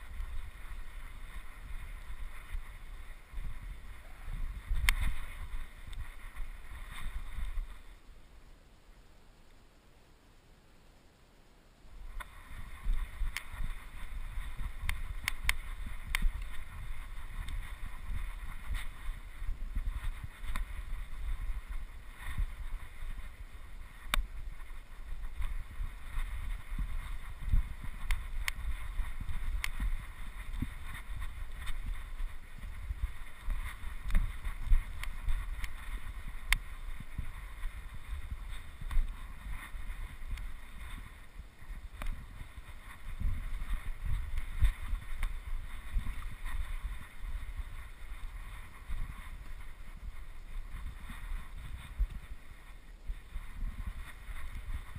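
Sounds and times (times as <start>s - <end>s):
wind buffeting microphone: 0.0s - 8.1s, 12.0s - 54.9s.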